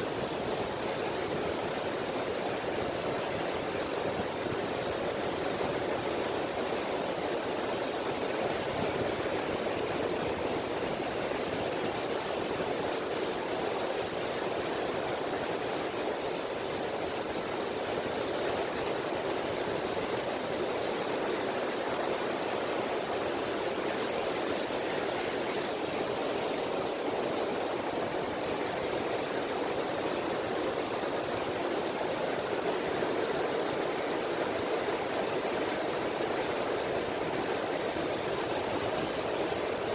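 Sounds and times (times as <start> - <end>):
gentle waves washing on beach: 0.0 - 39.9.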